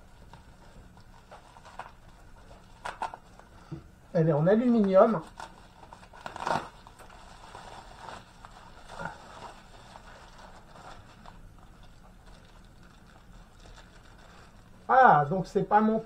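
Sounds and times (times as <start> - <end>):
plastic wrap rustling and crinkling: 0.0 - 3.7, 4.3 - 16.0.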